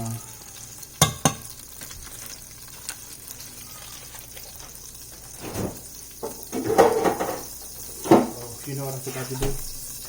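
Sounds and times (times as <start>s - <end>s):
butter sizzling in a pot: 0.0s - 10.0s.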